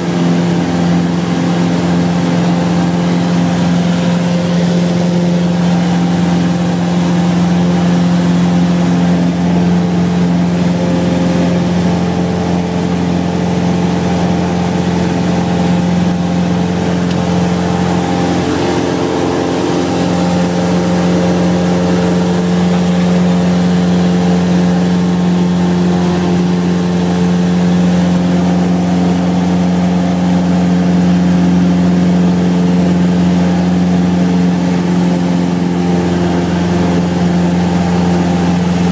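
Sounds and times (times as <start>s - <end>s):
floatplane engine and propeller: 0.0s - 38.9s.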